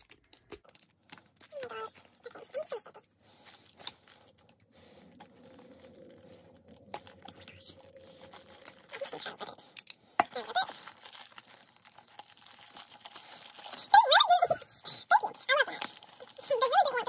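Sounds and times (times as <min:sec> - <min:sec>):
plastic mailer crinkling: 0:00.0 - 0:09.6, 0:10.3 - 0:17.0.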